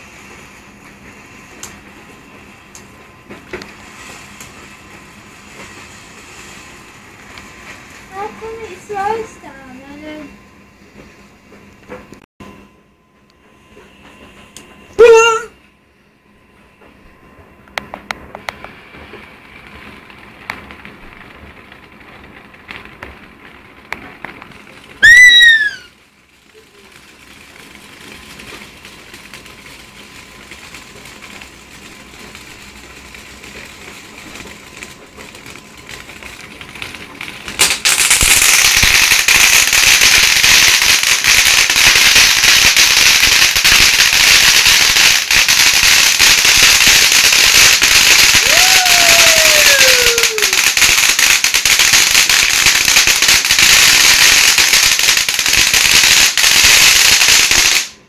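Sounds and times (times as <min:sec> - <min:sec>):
firework hissing and crackling: 0:00.0 - 0:12.3, 0:17.0 - 0:58.0
firework falling whistle: 0:00.0 - 0:58.0.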